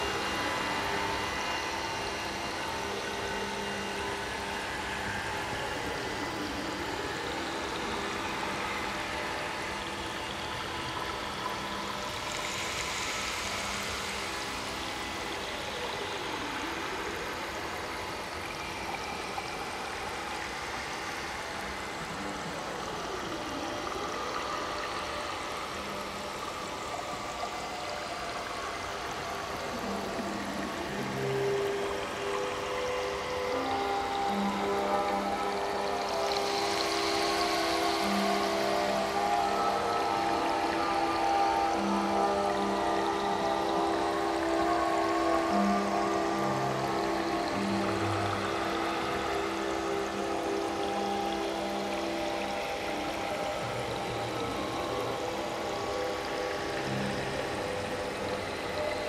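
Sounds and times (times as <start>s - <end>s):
drone tones with pitch sweeps: 0.0s - 59.0s
steady hiss: 0.0s - 59.0s.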